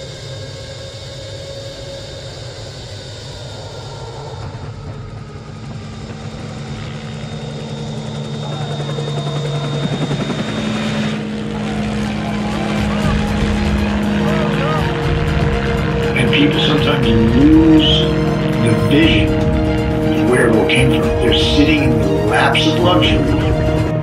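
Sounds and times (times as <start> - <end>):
jet engine whine and rumble: 0.0 - 24.0.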